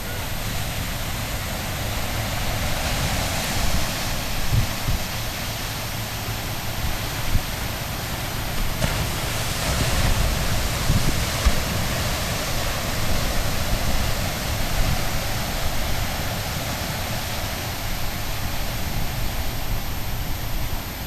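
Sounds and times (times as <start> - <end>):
ocean surf rushing: 0.0 - 21.0
wind buffeting microphone: 0.0 - 21.0.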